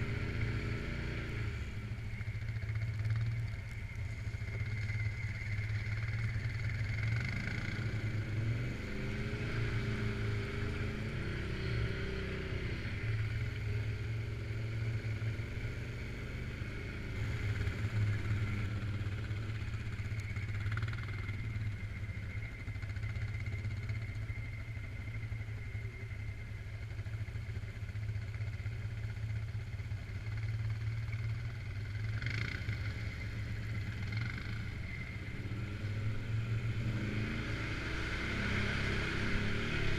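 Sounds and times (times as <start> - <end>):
atv engine running: 0.0 - 39.9
steady high whine: 0.0 - 39.9.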